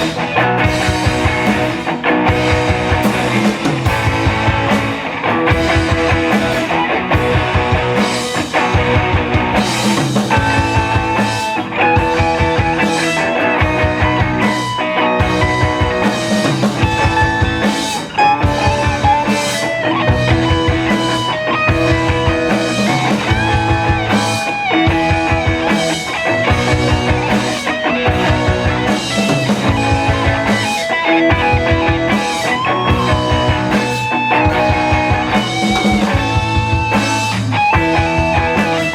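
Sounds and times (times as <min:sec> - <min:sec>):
drum kit beat: 0:00.0 - 0:38.9
electric guitar lines: 0:00.0 - 0:38.9.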